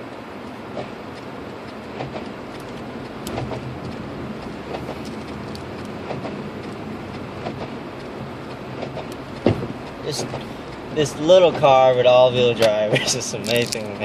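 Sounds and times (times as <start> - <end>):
car engine hum: 0.0 - 14.0
light clicks and knocks: 0.7 - 12.8.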